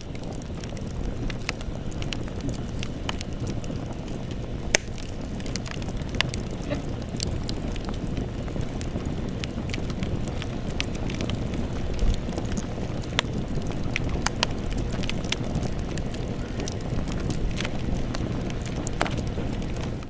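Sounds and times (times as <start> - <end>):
campfire flames rushing: 0.0 - 20.0
wood crackling and popping: 0.0 - 20.0.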